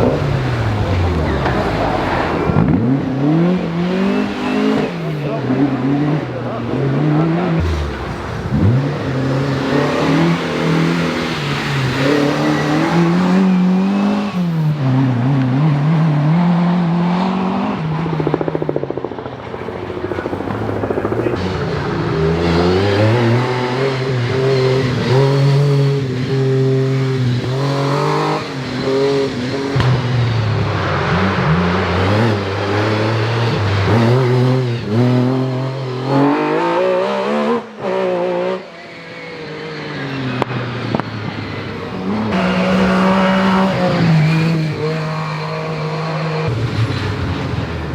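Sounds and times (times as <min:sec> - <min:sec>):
rally car engine at full throttle: 0:00.0 - 0:47.9.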